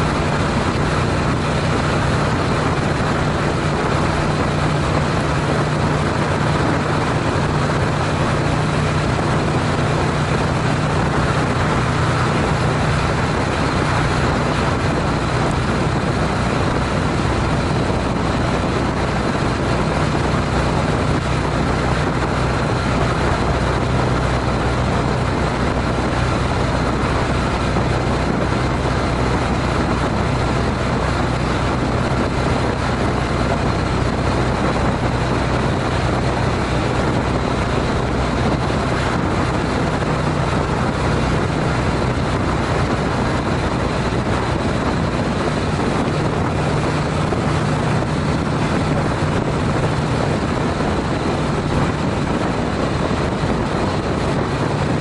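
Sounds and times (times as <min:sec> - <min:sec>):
motorcycle engine droning: 0:00.0 - 0:55.0
wind and road noise: 0:00.0 - 0:55.0.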